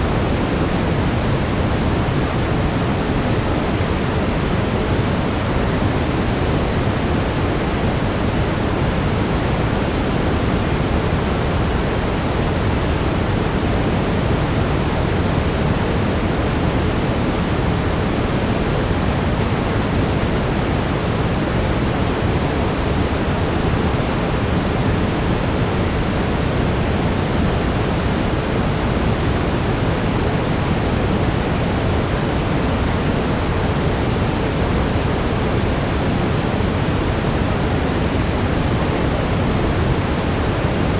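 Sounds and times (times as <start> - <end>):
steady brown noise: 0.0 - 40.9.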